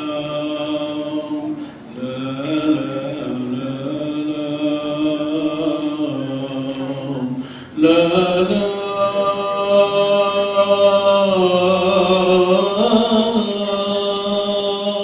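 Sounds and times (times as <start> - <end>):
voices chanting a hymn: 0.0 - 15.0.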